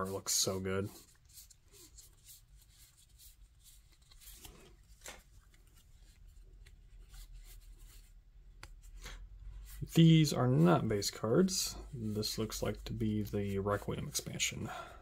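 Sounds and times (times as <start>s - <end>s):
cards rustling: 0.4s - 14.4s.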